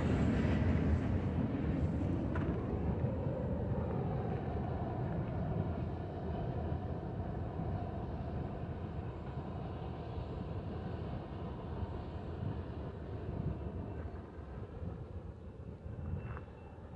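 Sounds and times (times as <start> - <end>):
freight train rumbling: 0.0 - 16.7.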